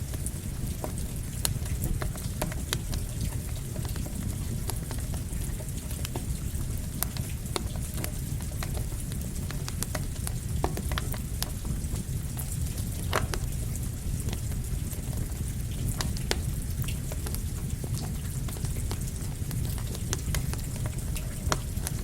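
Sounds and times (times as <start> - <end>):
campfire crackling and popping: 0.0 - 22.0
rain: 0.0 - 22.0.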